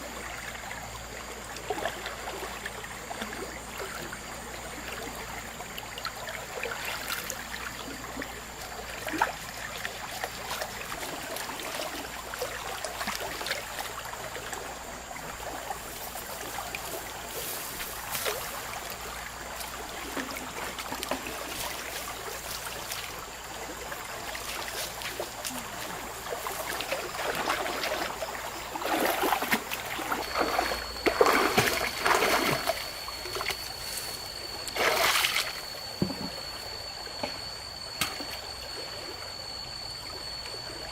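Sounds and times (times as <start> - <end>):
thin high tone: 5.1 - 40.9.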